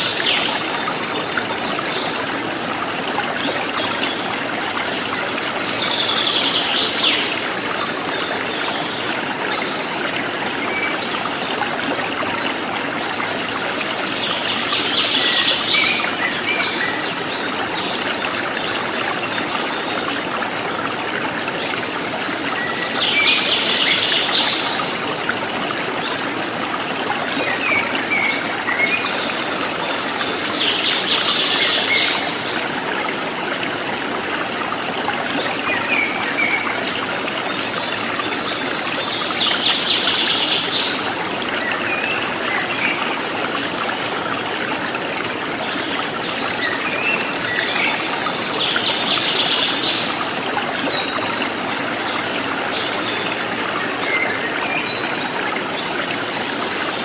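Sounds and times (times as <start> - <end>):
forest stream trickling: 0.0 - 57.0.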